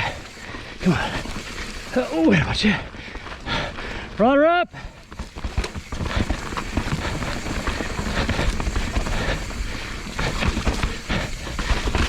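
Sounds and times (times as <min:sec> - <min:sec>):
mountain bike rattling over rocks: 0:00.0 - 0:12.0.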